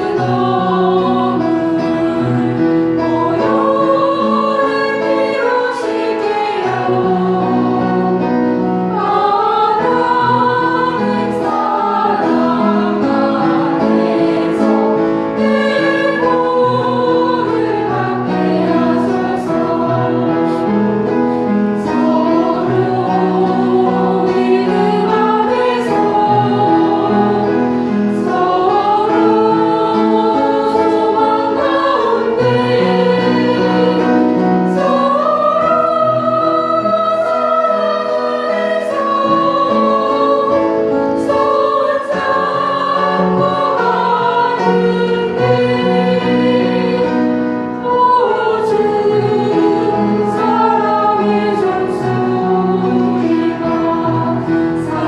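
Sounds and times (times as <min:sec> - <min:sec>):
church choir singing a hymn: 0:00.0 - 0:55.0.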